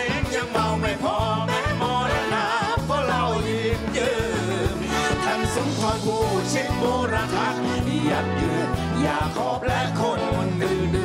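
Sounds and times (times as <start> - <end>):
bass line: 0.0 - 11.0
drums: 0.0 - 11.0
guitar: 0.0 - 11.0
person singing with vibrato: 0.0 - 11.0.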